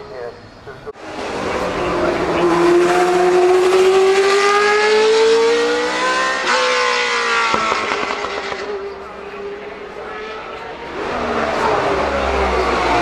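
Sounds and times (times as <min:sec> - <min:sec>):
racing car engine accelerating: 0:01.0 - 0:13.0.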